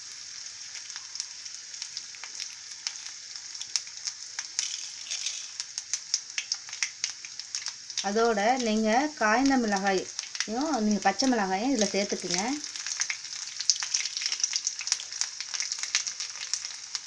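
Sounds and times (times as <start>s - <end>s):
seeds sizzling in hot oil: 0.0s - 17.0s.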